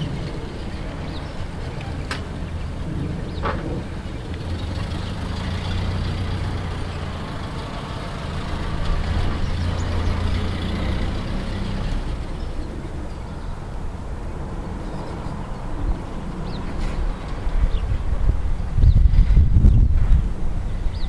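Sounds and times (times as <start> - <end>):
road rumble: 0.0 - 21.0
truck engine humming: 0.0 - 21.0.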